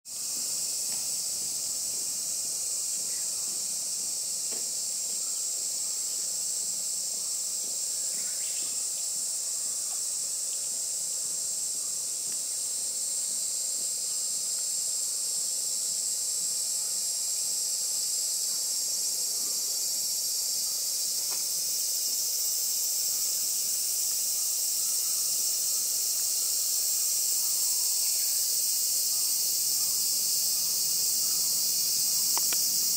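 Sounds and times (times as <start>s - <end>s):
high-pitched insect chorus: 0.1s - 32.9s.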